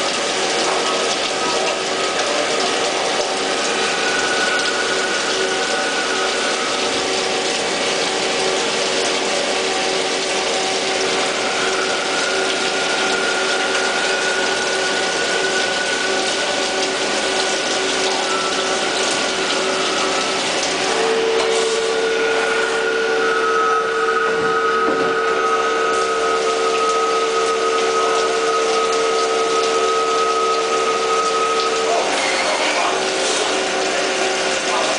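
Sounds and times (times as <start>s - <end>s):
coolant hissing and splashing: 0.0s - 34.9s
lathe spindle whine: 0.0s - 34.9s
tool turret whine: 0.0s - 34.9s.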